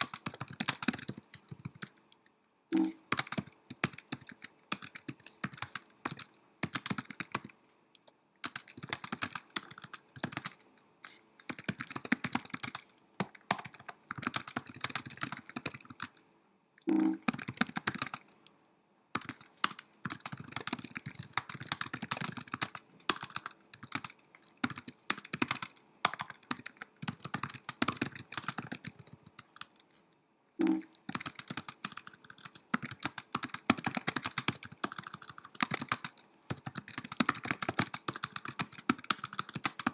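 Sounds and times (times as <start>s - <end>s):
laptop keyboard typing: 0.0s - 16.2s, 16.8s - 30.0s, 30.6s - 39.9s.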